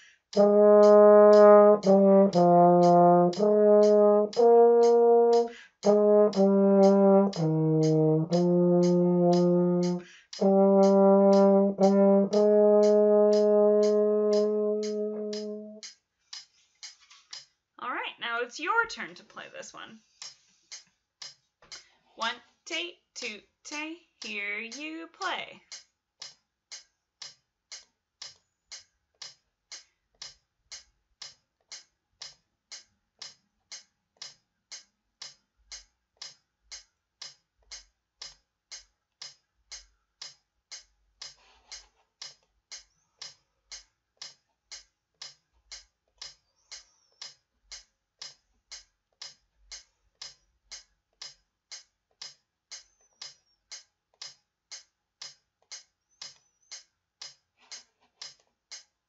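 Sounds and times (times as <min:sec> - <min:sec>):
metronome clicking: 0:00.0 - 0:17.5, 0:20.2 - 0:21.9, 0:25.6 - 0:58.9.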